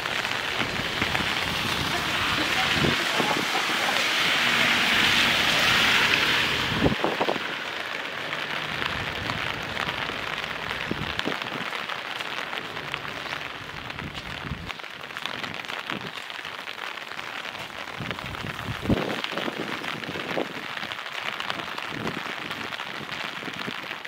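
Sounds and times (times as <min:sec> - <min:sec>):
rain pattering on surfaces: 0:00.0 - 0:24.0.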